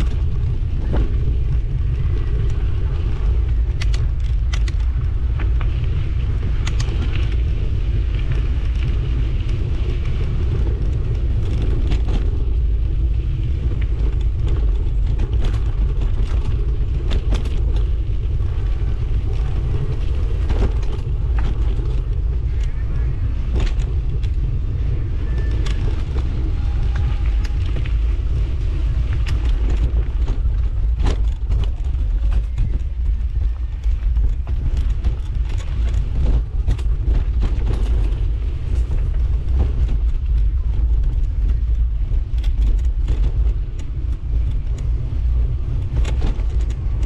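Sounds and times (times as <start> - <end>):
bike clicking and rattling: 0.0 - 47.0
wind rumble on microphone: 0.0 - 47.0.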